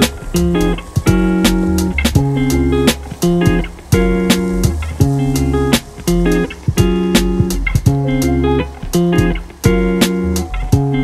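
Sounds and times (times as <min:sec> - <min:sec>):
plucked guitar music with beat: 0:00.0 - 0:11.0.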